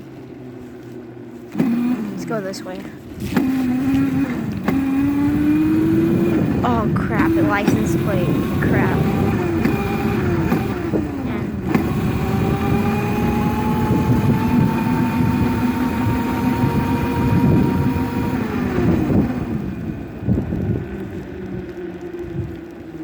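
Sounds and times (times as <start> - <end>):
dirt bike engine: 0.0 - 23.0.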